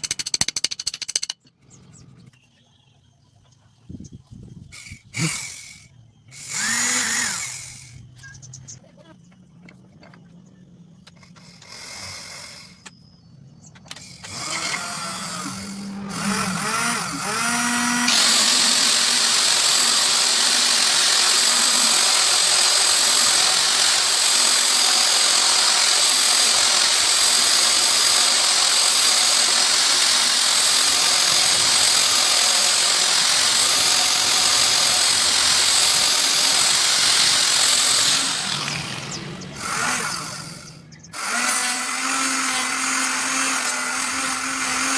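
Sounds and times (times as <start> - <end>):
homemade drill motor running: 4.7 - 8.1, 11.2 - 12.8, 13.9 - 44.9.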